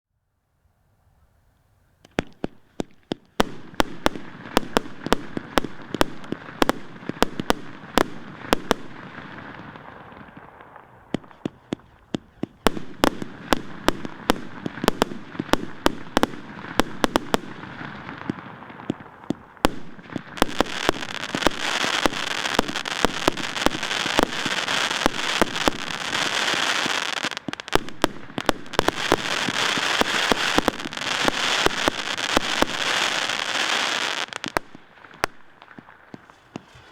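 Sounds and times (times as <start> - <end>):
firework bangs with fizz: 2.1 - 35.9
dense firework crackling: 2.1 - 36.9.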